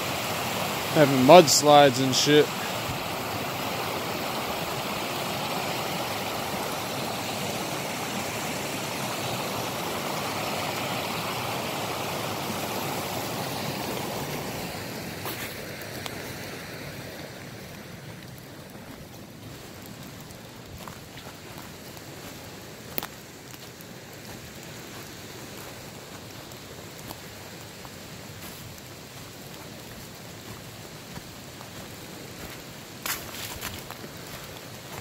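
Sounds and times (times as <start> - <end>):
creek rushing over rocks: 0.0 - 35.0.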